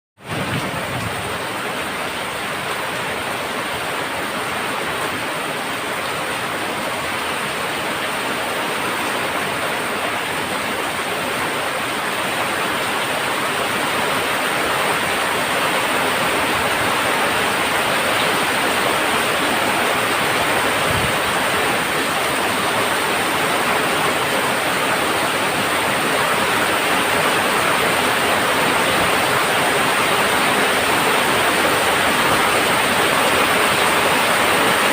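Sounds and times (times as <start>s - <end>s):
heavy rain on a tin roof: 0.2s - 34.9s.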